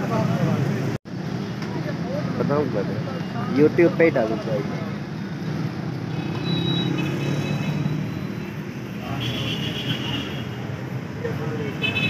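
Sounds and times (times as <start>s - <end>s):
passing cars and motorbikes: 0.0s - 12.0s.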